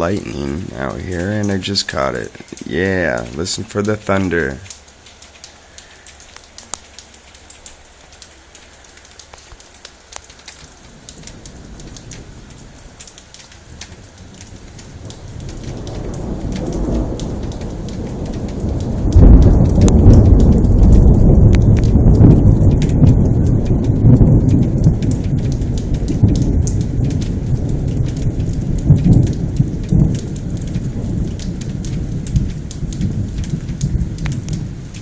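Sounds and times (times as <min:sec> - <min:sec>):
thunder rumble: 0:00.0 - 0:04.8, 0:10.7 - 0:35.0
rain falling: 0:00.0 - 0:35.0
raindrops clicking: 0:00.0 - 0:35.0.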